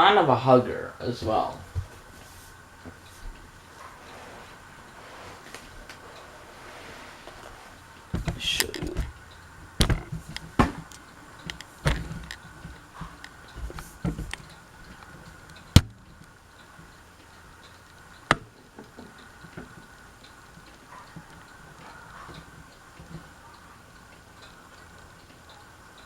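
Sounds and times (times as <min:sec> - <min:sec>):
ceiling fan knocks and clicks: 0:00.0 - 0:26.0.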